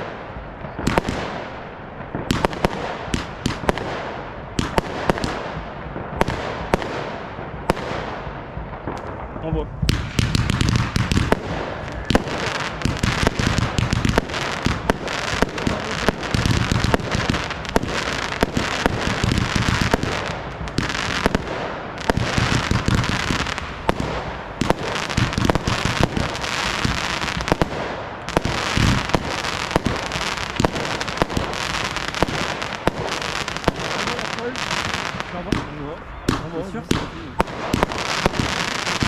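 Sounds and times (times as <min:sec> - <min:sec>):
deep booms of bursting shells: 0:00.0 - 0:39.0
firework bangs: 0:00.0 - 0:39.0
firework crackle: 0:00.0 - 0:39.0.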